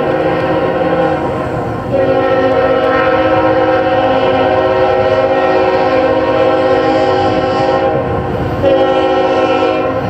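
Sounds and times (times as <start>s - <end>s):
locomotive air horn chord: 0.0s - 10.0s.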